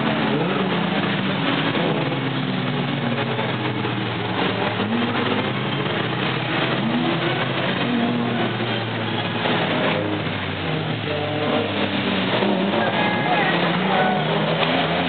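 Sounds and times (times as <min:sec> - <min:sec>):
racing cars accelerating: 0:00.0 - 0:15.0.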